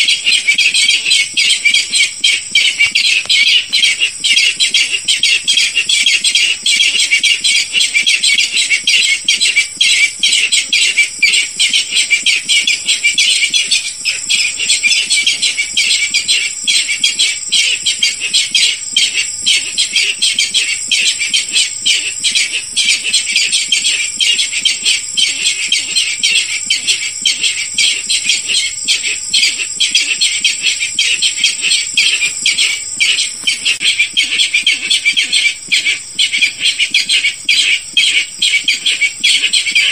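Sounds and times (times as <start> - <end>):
rapid harsh bird calls: 0.0 - 39.9.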